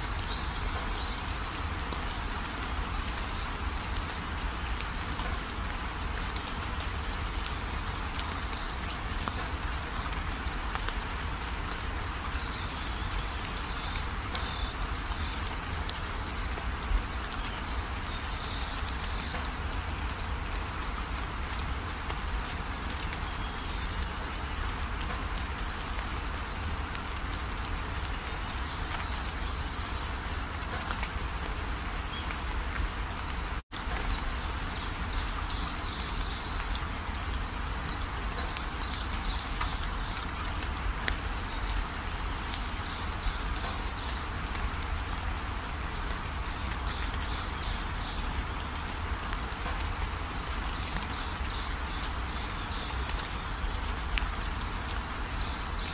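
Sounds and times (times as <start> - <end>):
steady rain-like hiss: 0.0 - 55.9.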